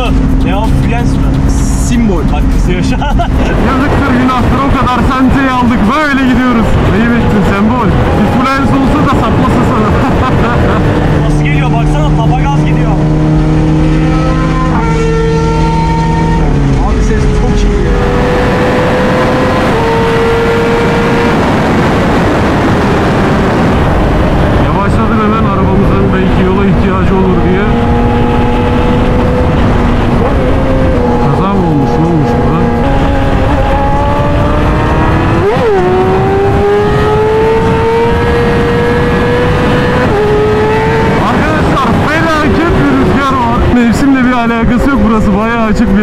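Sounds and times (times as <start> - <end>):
motorcycle engine: 0.0 - 46.0
wind rushing on helmet microphone: 0.0 - 46.0.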